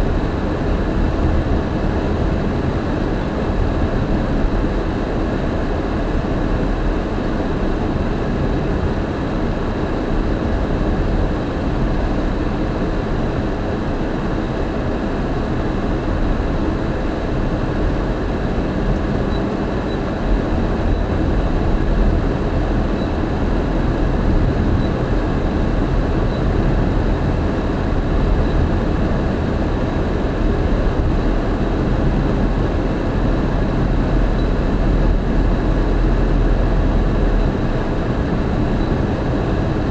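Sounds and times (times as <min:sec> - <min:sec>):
car interior road and engine rumble: 0:00.0 - 0:39.9.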